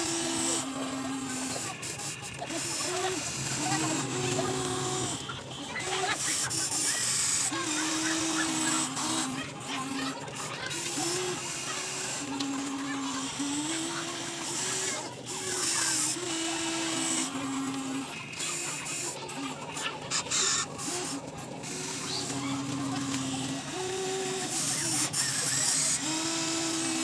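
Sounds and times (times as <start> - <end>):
toy excavator motors whining: 0.0 - 27.0.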